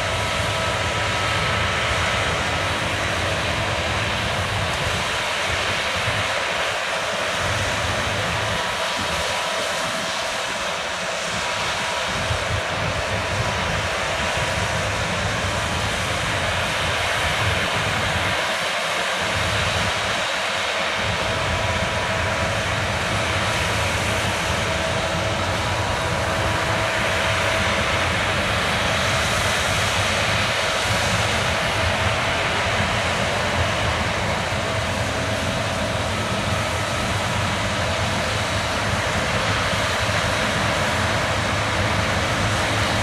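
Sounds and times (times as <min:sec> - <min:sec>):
combine harvester engine drone: 0:00.0 - 0:43.0
steady high whine: 0:00.0 - 0:43.0.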